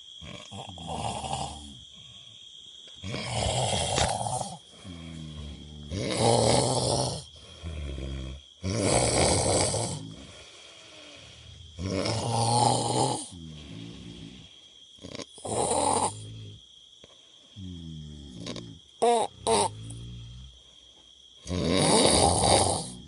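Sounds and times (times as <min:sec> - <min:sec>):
heavy raspy snoring: 0:00.2 - 0:02.4, 0:03.0 - 0:16.7, 0:17.6 - 0:20.6, 0:21.4 - 0:23.0.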